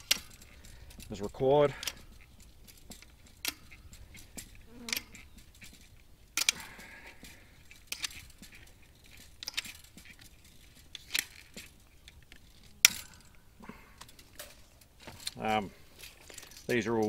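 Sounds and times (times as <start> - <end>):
fence wire clinking: 0.0 - 17.0.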